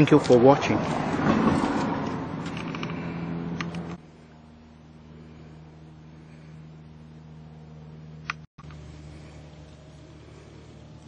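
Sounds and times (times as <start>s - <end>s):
low machine hum: 1.9s - 11.0s.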